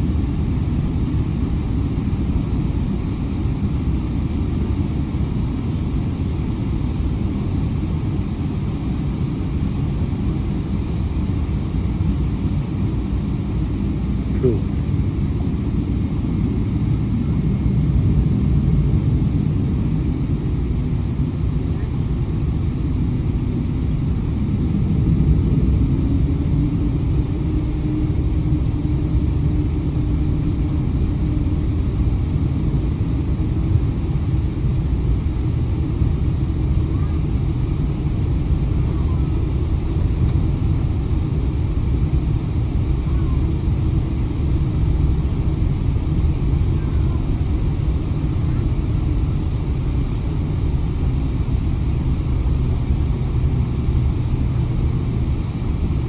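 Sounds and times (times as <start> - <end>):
faint steady hum: 0.0 - 56.0
jet engines rumbling in cabin: 0.0 - 56.0.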